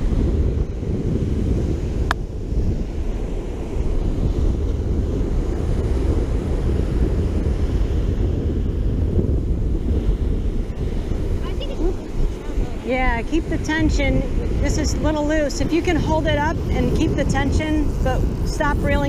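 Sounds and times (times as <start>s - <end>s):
surf breaking on beach: 0.0s - 19.0s
wind buffeting microphone: 0.0s - 19.0s.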